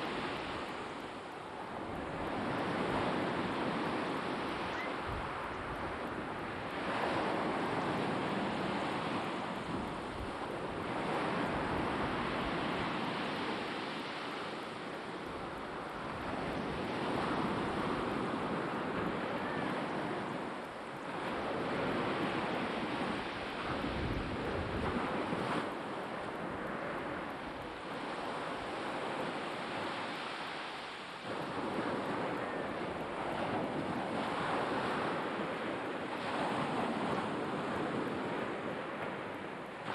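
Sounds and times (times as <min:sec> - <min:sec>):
waves washing onto shore: 0:00.0 - 0:39.9
wind buffeting microphone: 0:00.0 - 0:39.9.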